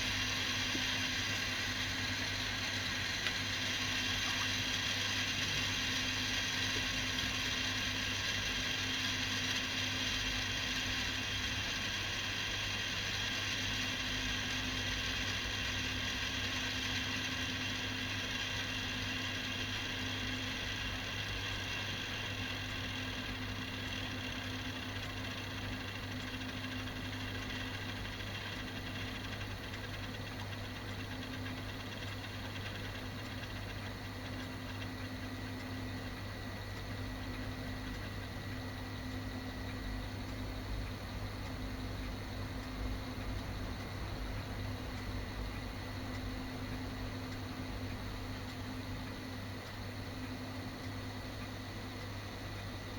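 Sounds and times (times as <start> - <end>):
tape deck winding whir: 0.0 - 51.6.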